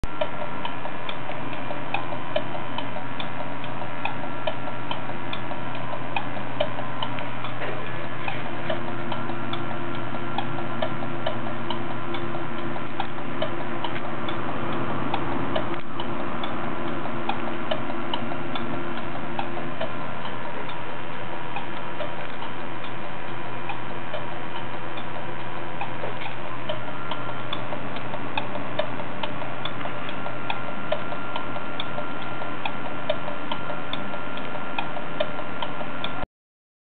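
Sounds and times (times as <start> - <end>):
hard drive ticking: 0.0 - 36.2
steady hum: 0.0 - 36.2.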